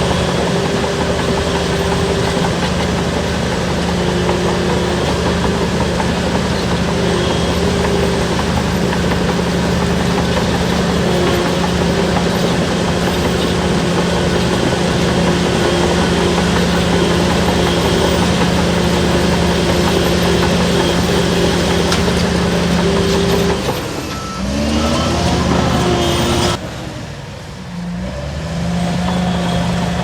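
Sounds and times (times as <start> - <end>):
bulldozer diesel engine revving: 0.0 - 27.0, 27.7 - 30.0.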